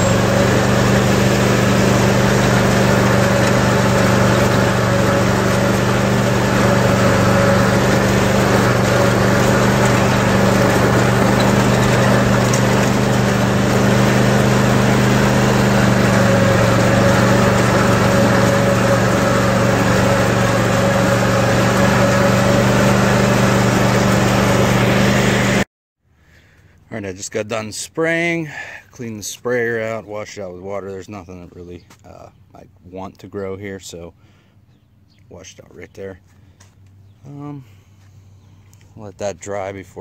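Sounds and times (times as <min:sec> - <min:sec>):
riding mower engine running: 0:00.0 - 0:40.0.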